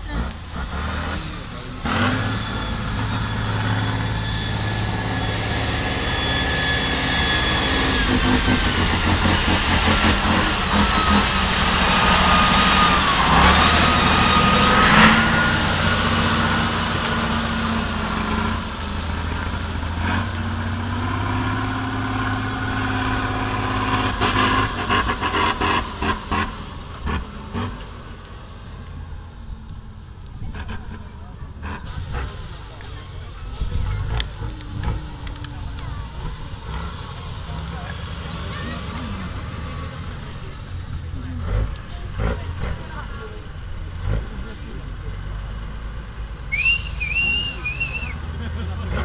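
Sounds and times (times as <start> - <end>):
truck diesel engine whining: 0.0 - 49.0.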